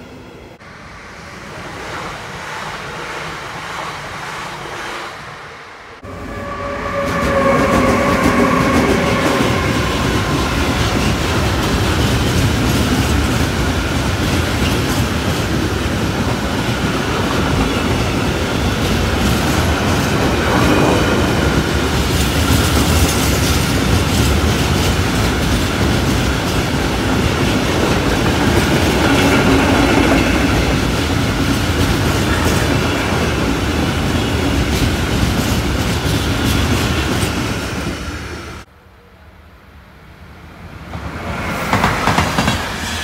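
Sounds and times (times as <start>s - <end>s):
train wheels rumbling on rails: 0.0s - 38.7s, 40.6s - 43.0s.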